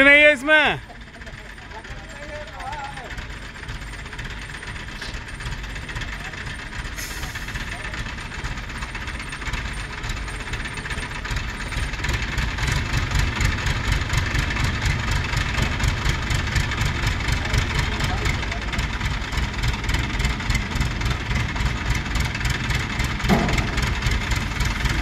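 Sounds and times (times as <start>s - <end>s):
diesel engine pulsing: 0.0s - 25.0s.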